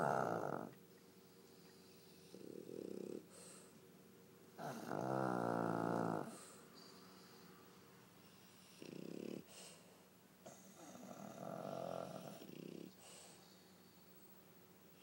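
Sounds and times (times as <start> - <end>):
dogs snoring: 0.0 - 3.7, 4.6 - 7.6, 8.2 - 14.2.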